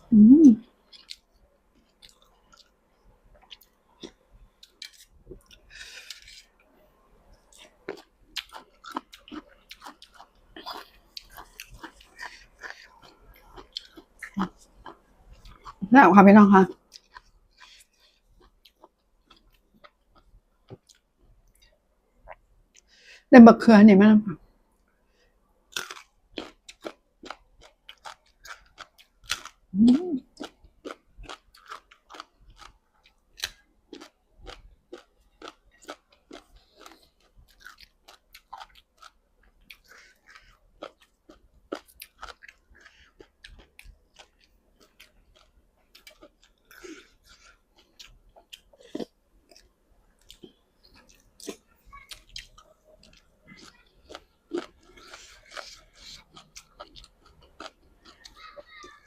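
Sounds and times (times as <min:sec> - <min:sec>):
person chewing and crunching food: 0:00.8 - 0:06.6, 0:07.3 - 0:15.9, 0:16.7 - 0:22.9, 0:25.7 - 0:59.0.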